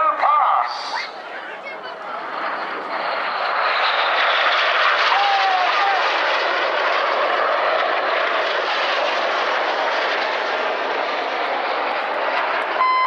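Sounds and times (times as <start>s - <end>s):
jets passing low: 0.0s - 13.0s.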